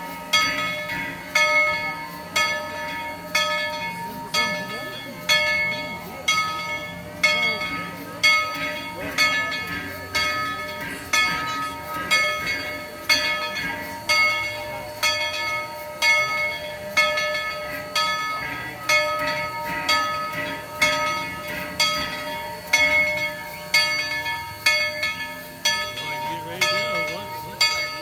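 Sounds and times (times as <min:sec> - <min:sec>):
locomotive bell ringing: 0:00.0 - 0:28.0.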